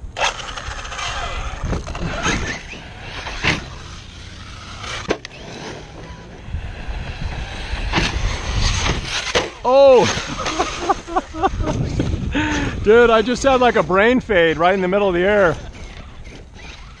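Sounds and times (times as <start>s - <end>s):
electric motor whining: 0.1s - 13.8s, 14.5s - 17.0s.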